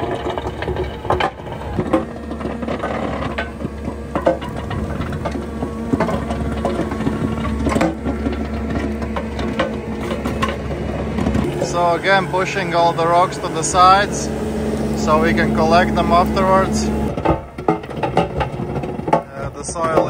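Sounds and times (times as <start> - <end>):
engine and hydraulic drone: 0.0 - 20.0
rocks cracking against rotor: 0.0 - 20.0.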